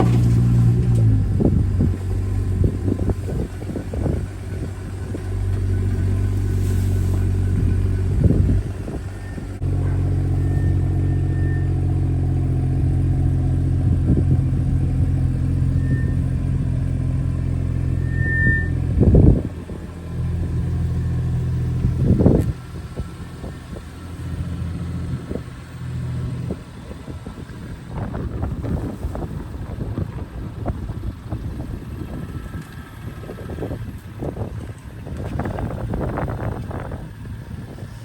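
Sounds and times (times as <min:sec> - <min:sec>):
car engine humming at low revs: 0:00.0 - 0:38.0.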